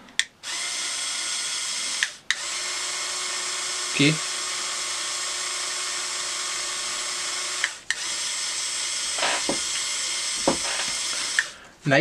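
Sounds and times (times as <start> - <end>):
small electric motor whirring: 0.4 - 11.6.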